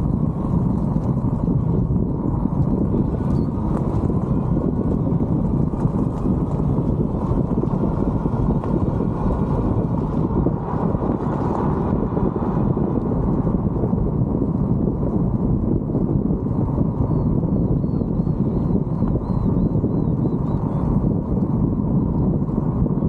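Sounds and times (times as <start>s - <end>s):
tyre and road noise: 0.0s - 23.0s
wind buffeting microphone: 0.0s - 23.0s.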